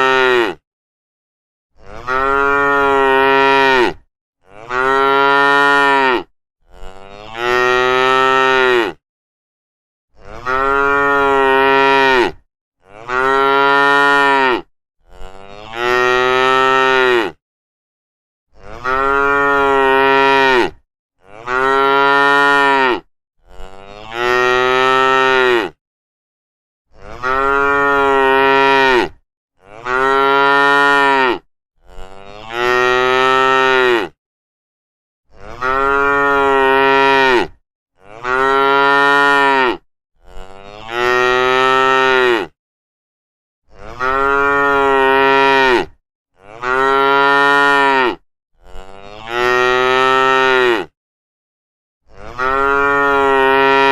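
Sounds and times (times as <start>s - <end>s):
cows mooing: 1.8s - 9.0s, 10.2s - 17.4s, 18.7s - 25.8s, 27.0s - 34.2s, 35.4s - 42.5s, 43.8s - 50.9s, 52.2s - 53.9s.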